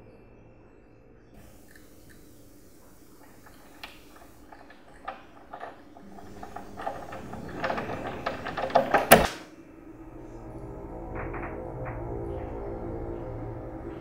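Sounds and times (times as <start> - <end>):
low hum: 1.4 - 14.0.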